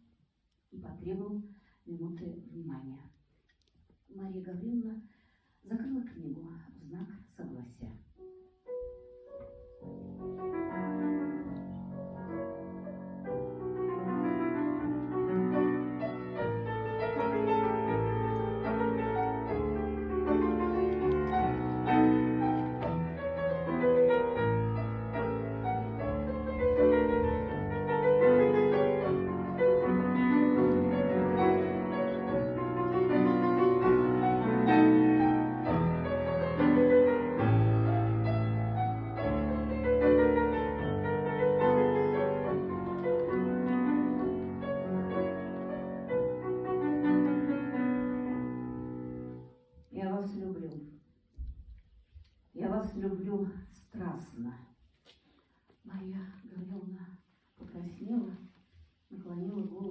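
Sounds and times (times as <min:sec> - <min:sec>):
slow classical piano piece: 0:05.6 - 0:59.9.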